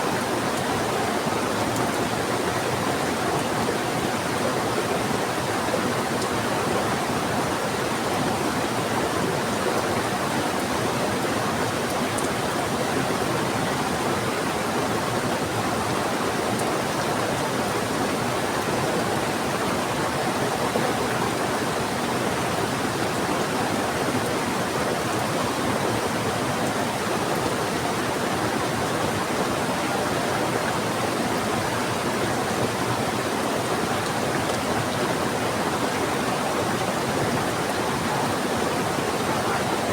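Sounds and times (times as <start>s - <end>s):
heavy rain: 0.0s - 39.9s
rushing river: 0.0s - 39.9s.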